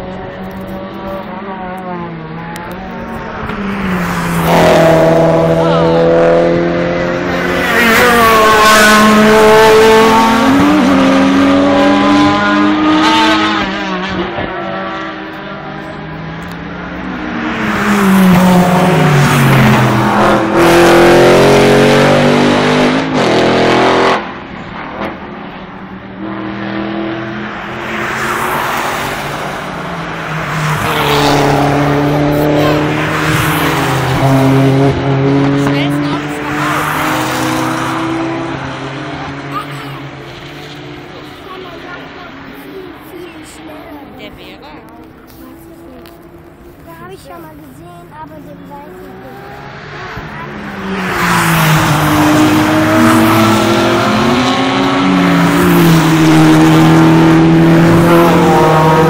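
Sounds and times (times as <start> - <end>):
race cars passing: 0.0 - 59.0.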